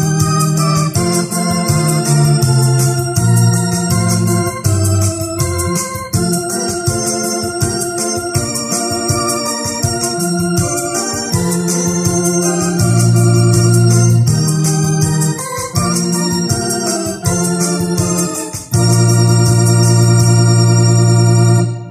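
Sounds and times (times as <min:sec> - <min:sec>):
electronic organ playing a hymn: 0:00.0 - 0:21.9.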